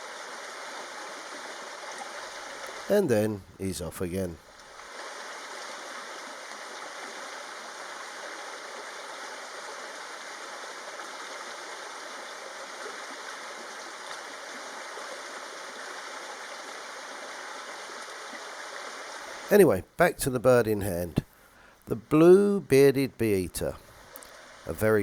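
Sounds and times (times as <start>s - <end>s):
running water rushing: 0.0s - 25.0s.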